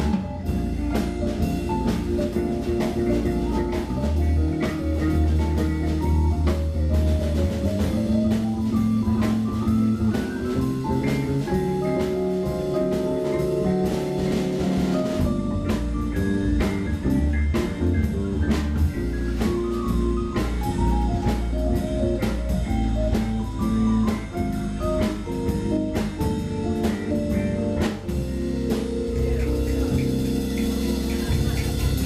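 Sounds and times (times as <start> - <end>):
drum kit steady beat: 0.0 - 32.0
electric bass: 0.0 - 32.0
jazz fusion band playing: 0.0 - 32.0.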